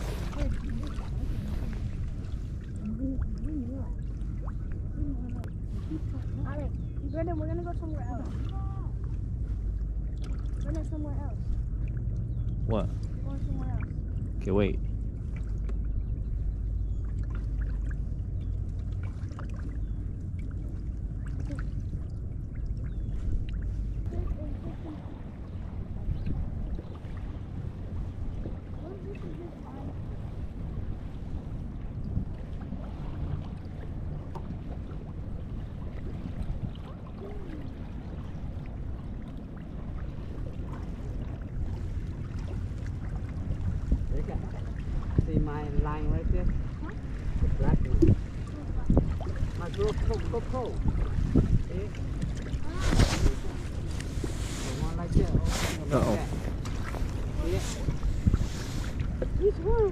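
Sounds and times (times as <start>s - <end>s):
water splashing against boat: 0.0s - 59.9s
wind rumbling on microphone: 0.0s - 59.9s.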